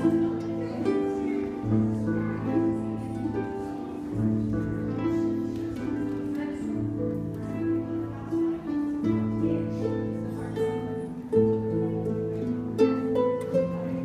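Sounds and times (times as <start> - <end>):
harps playing a waltz: 0.0 - 14.0.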